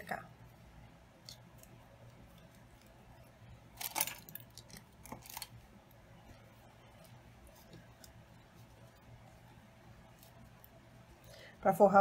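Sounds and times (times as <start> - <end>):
ribbon rustling: 0.4 - 11.4.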